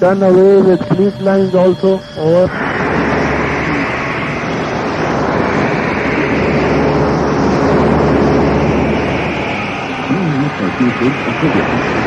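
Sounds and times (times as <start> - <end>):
radio static hiss: 0.0 - 9.0, 10.0 - 12.0
faint steady tones: 0.0 - 12.0.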